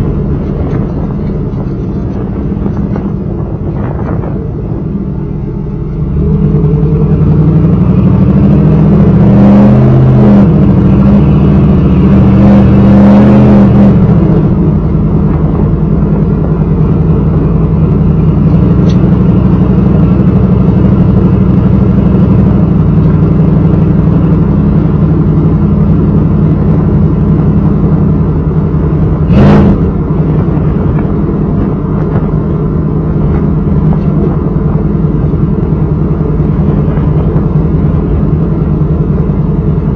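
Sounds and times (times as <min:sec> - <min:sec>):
loud car engine revving and idling: 0:00.0 - 0:39.9.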